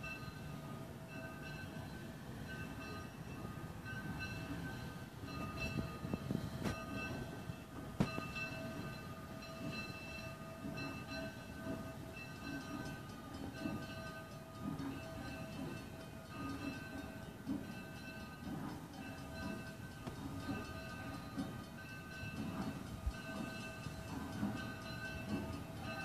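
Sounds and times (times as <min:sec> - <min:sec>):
locomotive low rumble: 0:00.0 - 0:26.0
steam locomotive bell ringing: 0:00.0 - 0:26.0.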